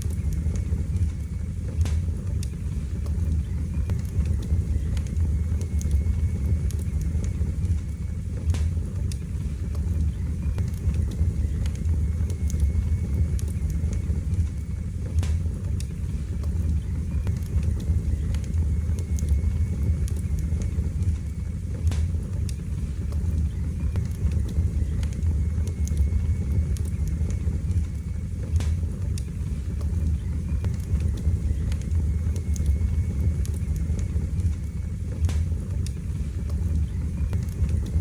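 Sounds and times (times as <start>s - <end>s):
fire crackles and pops: 0.0s - 38.0s
low roar of flames: 0.0s - 38.0s.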